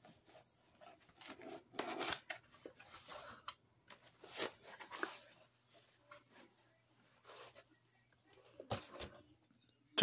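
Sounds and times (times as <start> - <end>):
cardboard and paper rustling: 0.0 - 9.4.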